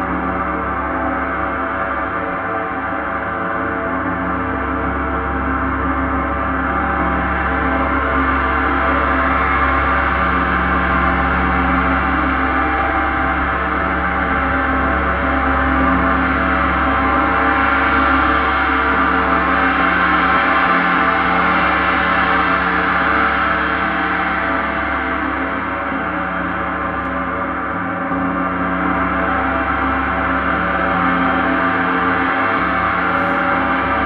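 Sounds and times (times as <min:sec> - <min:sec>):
gong sustained wash: 0:00.0 - 0:34.0.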